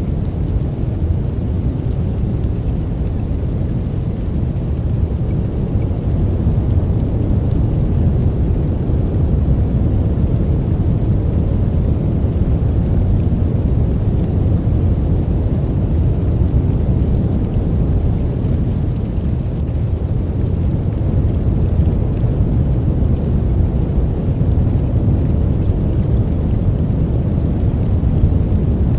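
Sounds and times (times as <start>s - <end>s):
deep steady noise: 0.0s - 28.9s.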